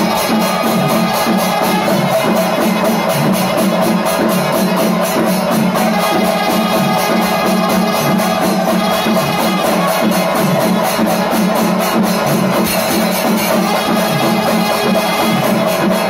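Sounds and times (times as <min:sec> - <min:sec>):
chenda drums: 0:00.0 - 0:16.0
cymbals: 0:00.0 - 0:16.0.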